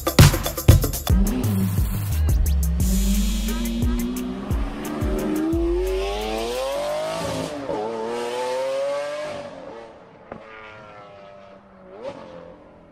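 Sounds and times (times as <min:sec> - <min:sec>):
car engine revving: 0:01.1 - 0:12.9.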